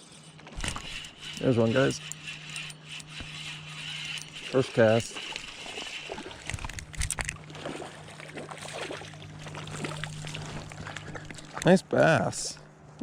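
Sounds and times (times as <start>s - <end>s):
steady low hum: 0.0s - 13.0s
water sloshing and splashing: 0.4s - 11.8s.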